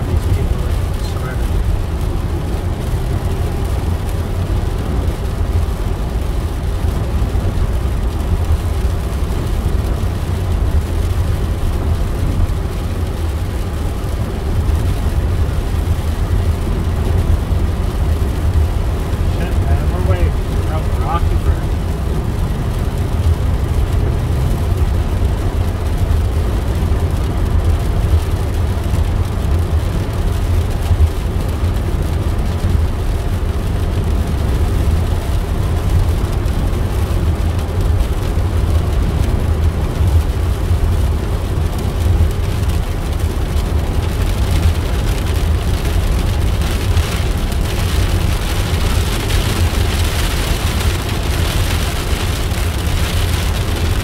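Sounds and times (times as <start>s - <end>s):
road and engine noise inside car: 0.0s - 54.0s.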